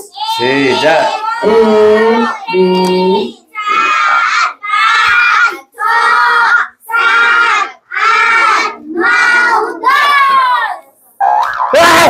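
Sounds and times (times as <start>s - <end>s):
children counting aloud in unison: 0.0s - 11.0s.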